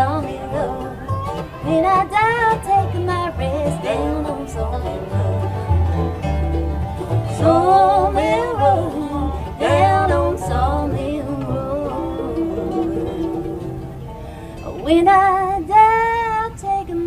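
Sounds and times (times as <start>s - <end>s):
sliding lead instrument: 0.0s - 15.8s
double bass notes: 0.0s - 16.6s
banjo picking: 0.0s - 17.0s
guitar picking: 0.0s - 17.0s.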